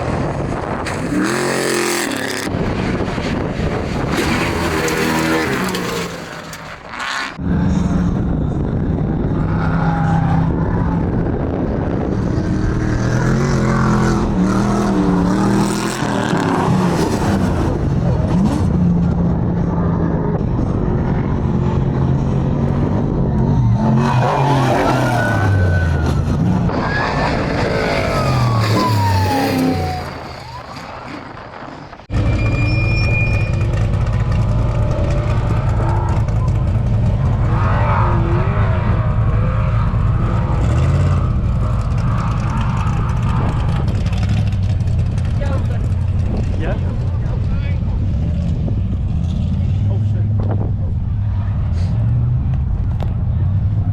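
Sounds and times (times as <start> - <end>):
car engines revving: 0.0 - 53.9
low engine drone: 2.0 - 53.9.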